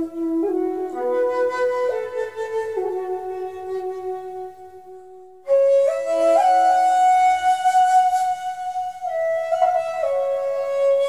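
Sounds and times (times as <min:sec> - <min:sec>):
flute playing slow melody: 0:00.0 - 0:11.0.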